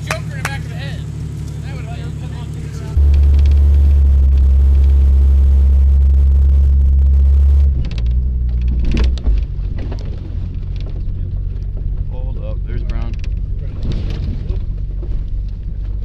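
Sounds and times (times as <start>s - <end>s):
vehicle low rumble: 0.0s - 16.0s.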